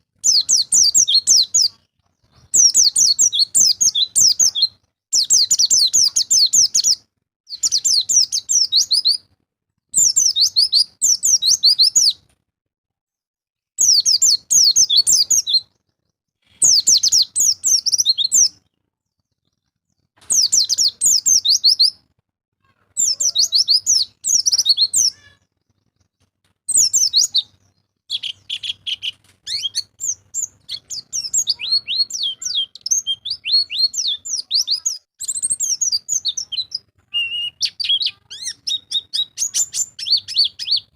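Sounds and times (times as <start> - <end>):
bird twittering song: 0.2 - 9.3, 10.0 - 12.2, 13.8 - 22.0, 23.0 - 40.9.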